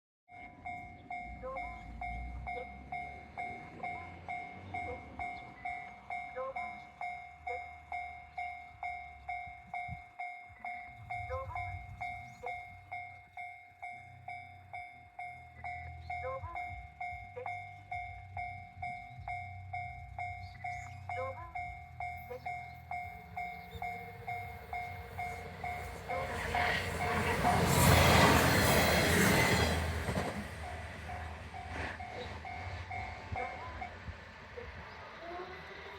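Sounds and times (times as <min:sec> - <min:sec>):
diesel railcar passing: 0:00.3 - 0:35.9
level-crossing warning bell dinging: 0:00.3 - 0:35.9.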